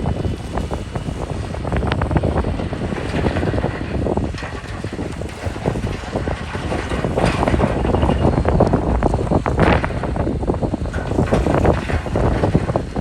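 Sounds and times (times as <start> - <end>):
diesel machinery rumbling: 0.0 - 13.0
wind buffeting microphone: 0.0 - 13.0.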